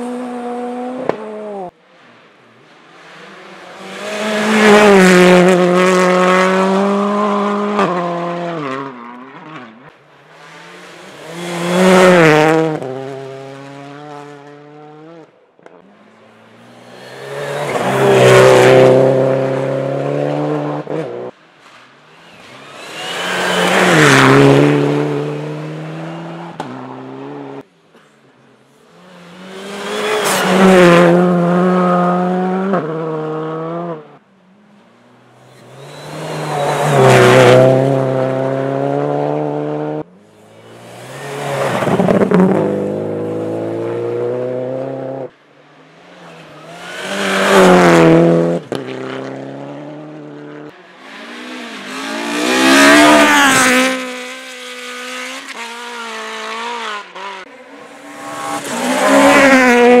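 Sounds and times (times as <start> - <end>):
rally car engines revving: 0.0 - 28.1, 28.7 - 34.2, 34.8 - 60.0.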